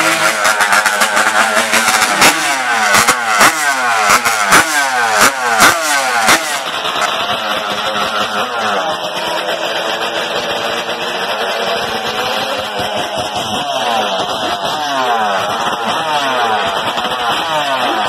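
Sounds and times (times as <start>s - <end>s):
engine exhaust cracks: 0.0s - 18.0s
racing engine revving: 0.0s - 18.0s.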